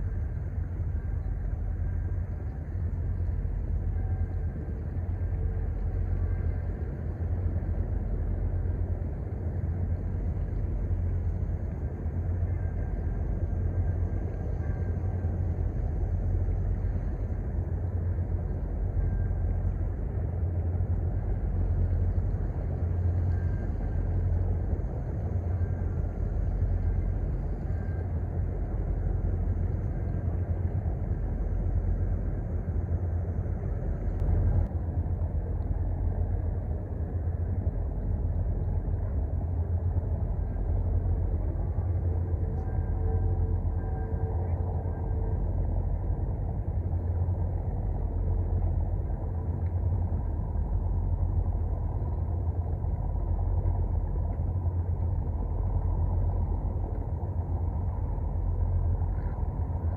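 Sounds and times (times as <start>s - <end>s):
ship engine rumble: 0.0s - 59.9s.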